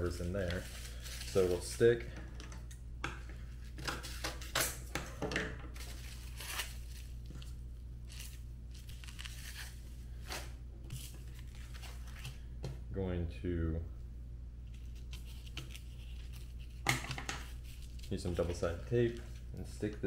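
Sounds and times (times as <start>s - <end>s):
soft handling noises: 0.0s - 4.5s, 5.6s - 12.9s, 14.6s - 20.0s.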